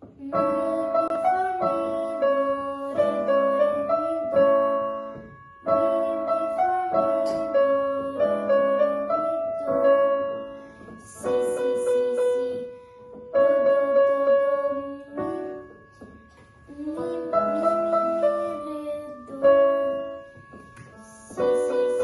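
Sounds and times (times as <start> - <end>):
digital piano notes: 0.0 - 22.0.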